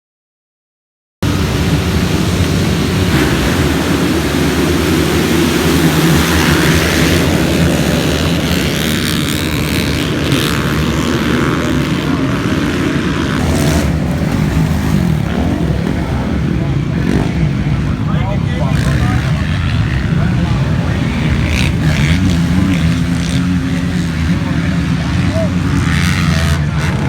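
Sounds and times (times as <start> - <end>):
motocross bike engines droning: 1.2 - 27.0.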